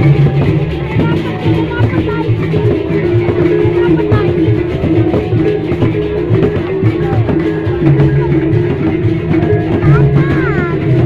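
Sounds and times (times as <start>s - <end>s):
large drums beating: 0.0s - 11.0s.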